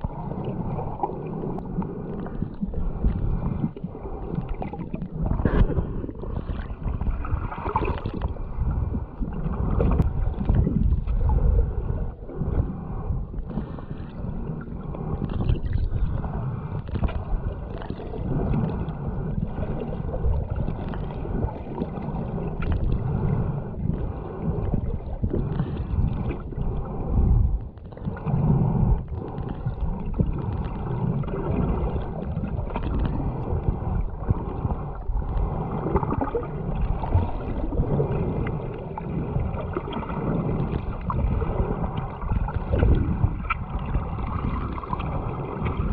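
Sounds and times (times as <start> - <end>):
muffled water sloshing: 0.0 - 45.9.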